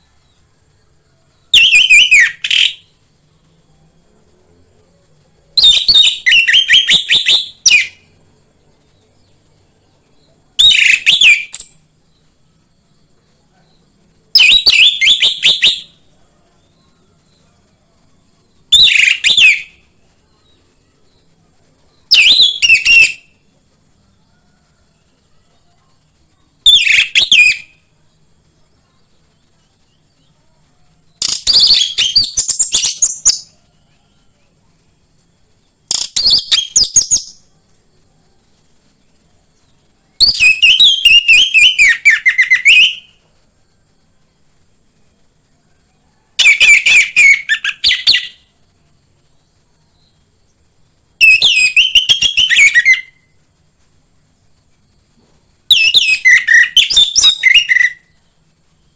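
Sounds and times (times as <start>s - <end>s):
faint high hiss: 0.0s - 58.9s.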